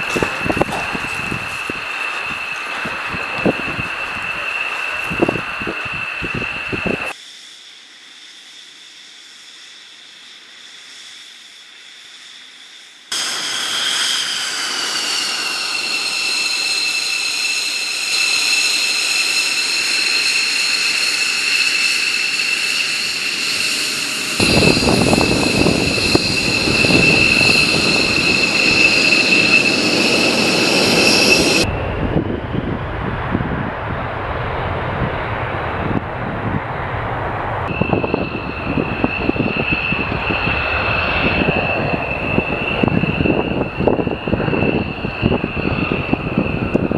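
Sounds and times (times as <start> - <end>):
jet engine heavy rumble: 0.0 - 7.2, 13.1 - 46.9
jet turbine whine: 0.0 - 46.9.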